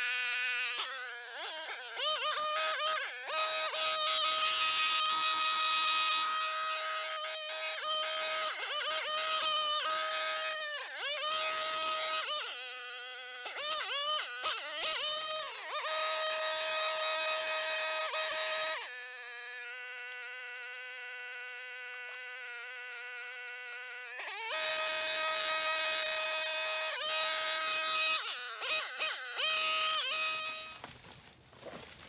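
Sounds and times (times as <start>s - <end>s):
string trimmer engine revving: 0.0s - 30.8s.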